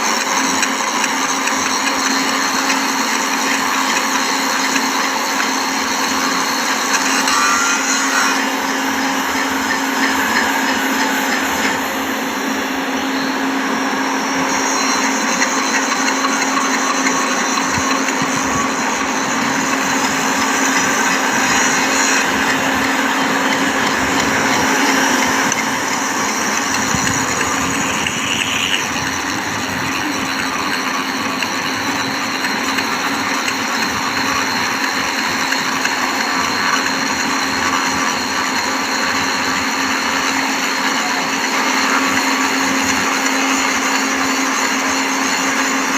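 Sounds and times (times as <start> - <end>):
power grinder grinding steel: 0.0 - 45.9.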